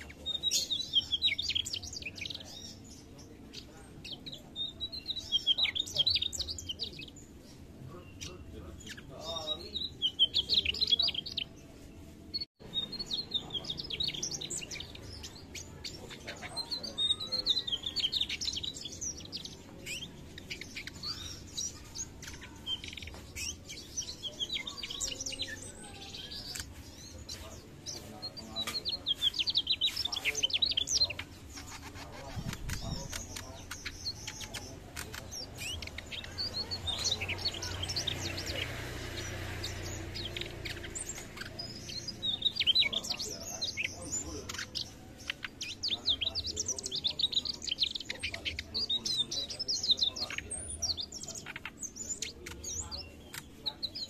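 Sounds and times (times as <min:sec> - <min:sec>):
bird twittering song: 0:00.0 - 0:54.0.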